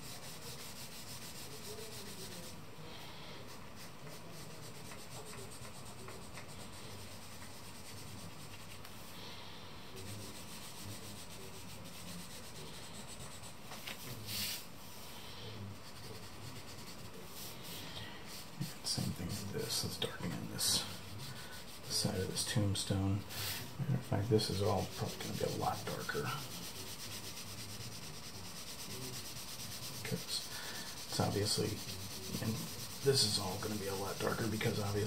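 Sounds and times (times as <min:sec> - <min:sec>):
charcoal scratching on paper: 0:00.0 - 0:09.2, 0:09.9 - 0:14.7, 0:15.6 - 0:35.0.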